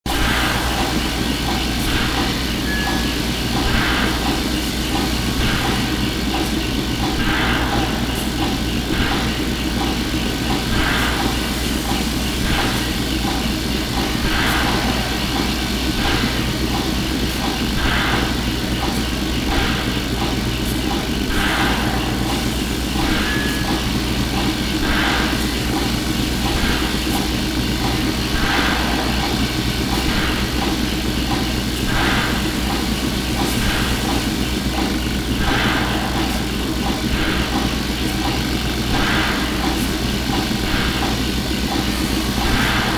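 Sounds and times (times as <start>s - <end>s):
low machine hum: 0.1s - 42.9s
mechanical noise: 0.1s - 42.9s.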